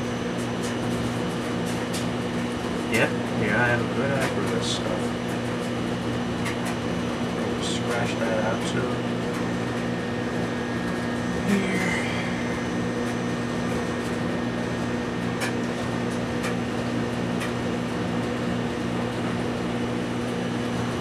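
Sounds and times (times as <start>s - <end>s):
low fan-like hum with hiss: 0.0s - 21.0s.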